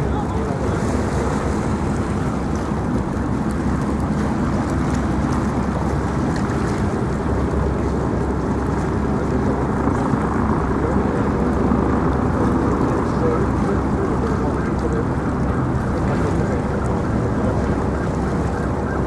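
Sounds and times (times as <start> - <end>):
wash of water: 0.0 - 19.0
wind buffeting microphone: 0.0 - 19.0.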